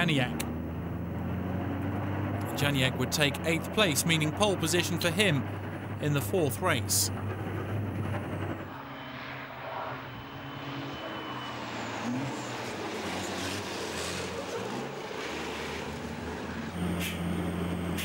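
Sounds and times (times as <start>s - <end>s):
diesel truck engines racing: 0.0s - 18.0s.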